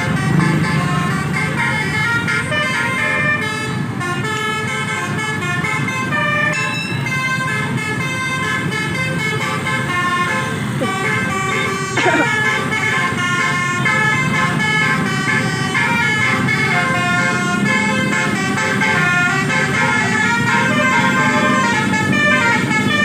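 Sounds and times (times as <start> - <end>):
multi-tone horn melody: 0.0 - 23.0.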